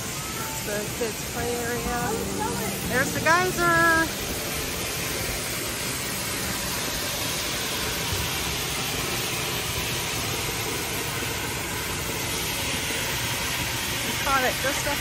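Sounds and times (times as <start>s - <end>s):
geyser water jet rushing hiss: 0.0s - 15.0s.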